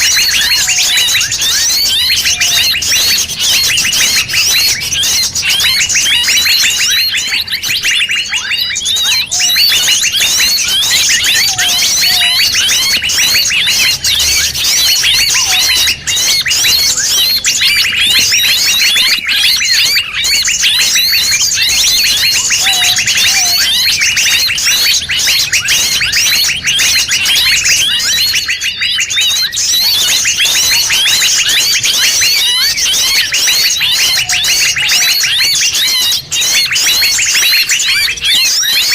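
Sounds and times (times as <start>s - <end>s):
forest birds chirping and trilling: 0.0s - 38.9s.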